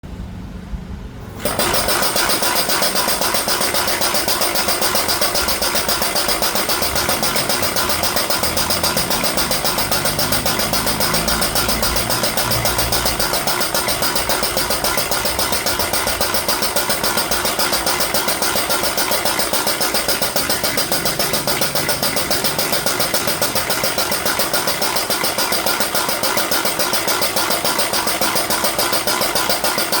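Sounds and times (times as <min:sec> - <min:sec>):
air pump exhaust pulsing: 0:01.2 - 0:30.0.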